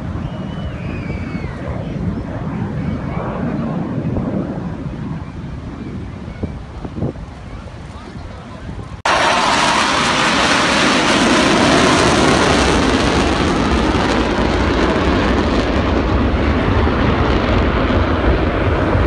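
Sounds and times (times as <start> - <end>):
jet engines roaring overhead: 0.0 - 19.0.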